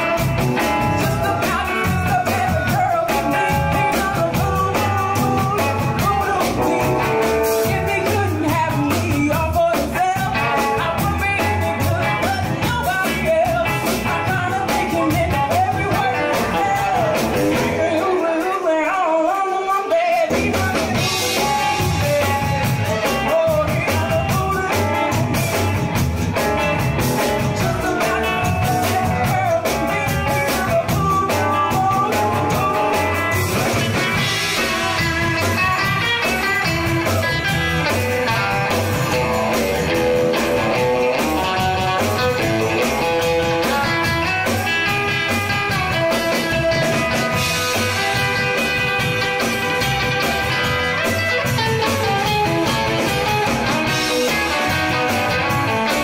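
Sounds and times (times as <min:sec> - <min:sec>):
person singing: 0:00.0 - 0:56.0
rock and roll music: 0:00.0 - 0:56.0.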